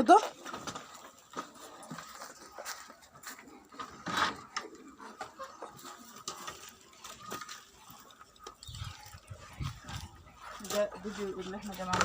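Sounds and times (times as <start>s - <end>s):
faint farm animal calls: 1.0s - 12.0s.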